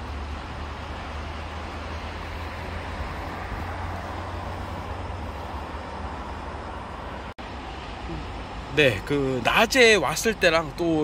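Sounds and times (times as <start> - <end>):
distant expressway traffic hum: 0.0 - 11.0.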